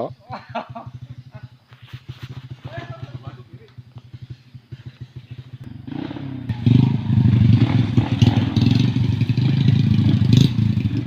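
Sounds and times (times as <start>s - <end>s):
engine idling and revving: 0.5s - 11.0s.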